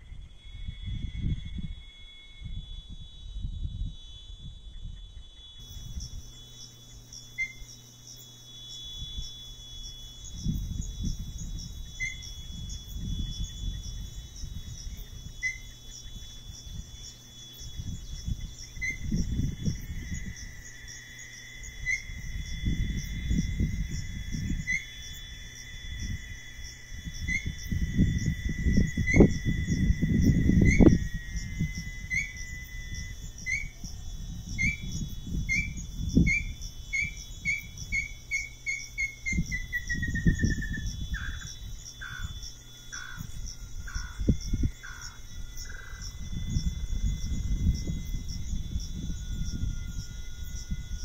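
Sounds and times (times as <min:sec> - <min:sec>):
wind rumbling on microphone: 0:00.0 - 0:07.7, 0:08.8 - 0:51.0
high insect buzz: 0:00.0 - 0:51.0.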